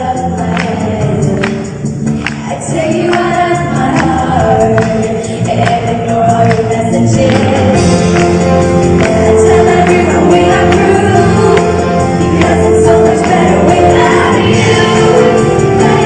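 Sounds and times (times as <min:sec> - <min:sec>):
live pop band: 0:00.0 - 0:16.0
percussion: 0:00.0 - 0:16.0
woman singing: 0:02.3 - 0:16.0.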